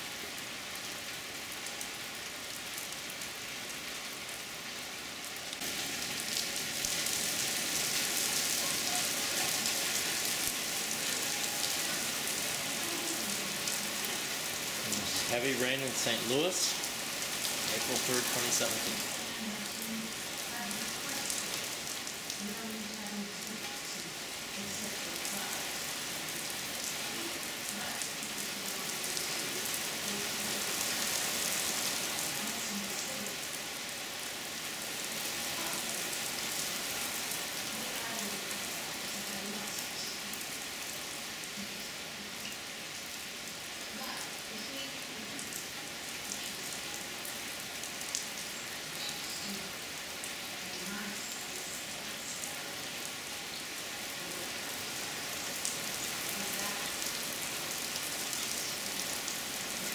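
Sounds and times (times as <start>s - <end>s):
heavy rain on wooden deck: 0.0s - 59.9s.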